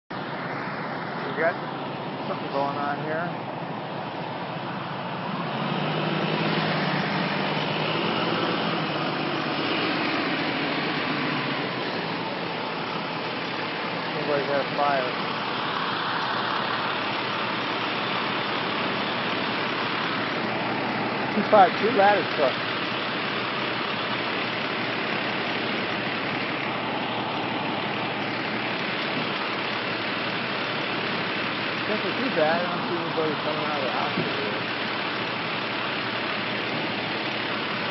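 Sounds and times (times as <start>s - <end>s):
road noise: 0.0s - 37.9s
fire truck engine rumbling: 0.1s - 37.9s.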